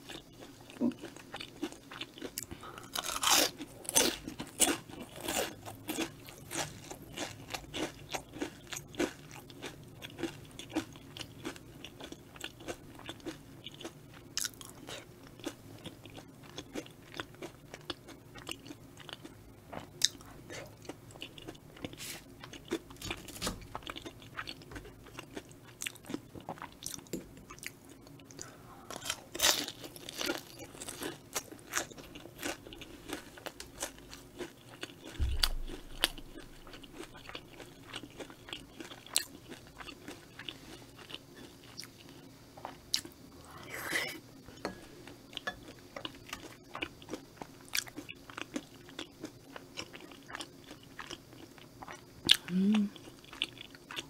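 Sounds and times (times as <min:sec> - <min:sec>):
crunchy chewing of fried food: 0:00.0 - 0:43.4, 0:44.2 - 0:54.0.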